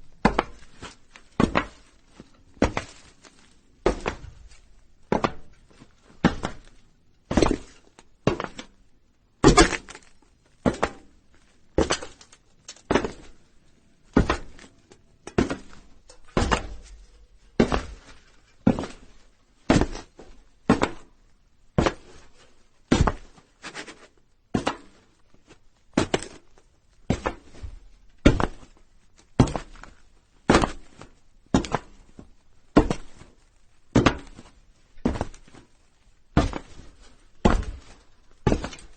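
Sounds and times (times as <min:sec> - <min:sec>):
footsteps on a roof: 0:00.0 - 0:38.9.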